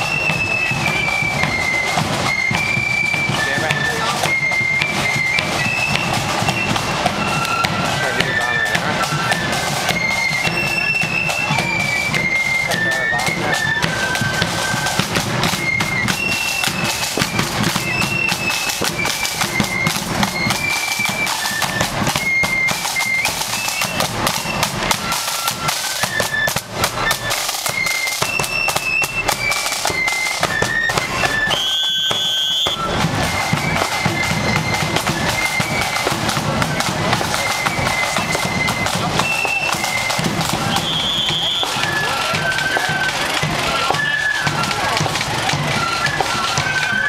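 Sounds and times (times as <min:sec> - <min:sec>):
flutes playing a melody: 0:00.0 - 0:47.0
side-drum rolls and beats: 0:00.0 - 0:47.0.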